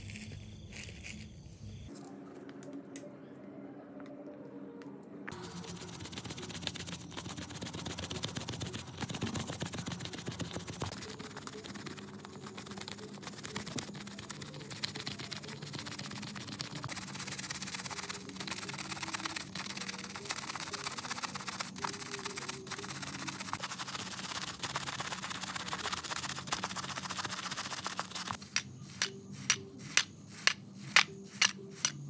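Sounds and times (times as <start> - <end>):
brush scrubbing wet rug: 5.3 - 31.9.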